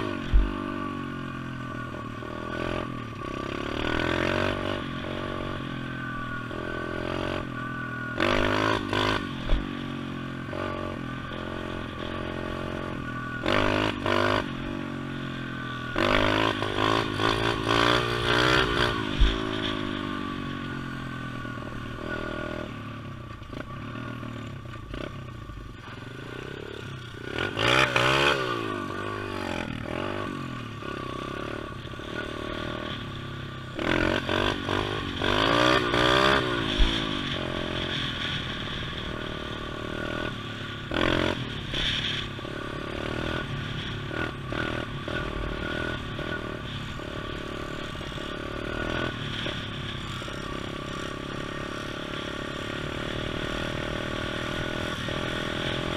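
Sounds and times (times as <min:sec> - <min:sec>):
pit bike engine revving: 0:00.0 - 0:22.7, 0:23.5 - 0:55.9.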